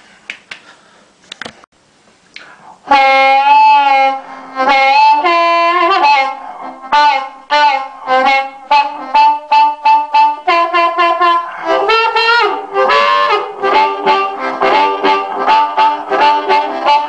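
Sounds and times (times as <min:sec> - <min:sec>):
amplified blues harmonica: 0:02.9 - 0:17.0.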